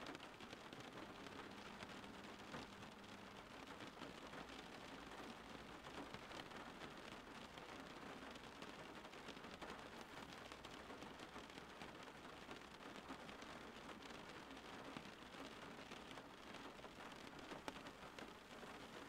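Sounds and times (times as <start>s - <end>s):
faint steady rain: 0.0s - 19.0s.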